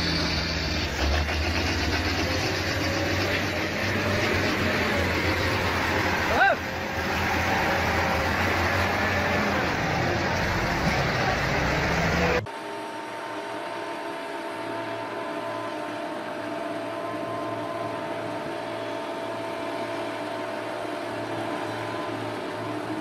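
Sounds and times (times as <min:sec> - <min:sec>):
heavy machinery engine hum: 0:00.0 - 0:23.0
loud diesel dozer engine: 0:00.0 - 0:23.0.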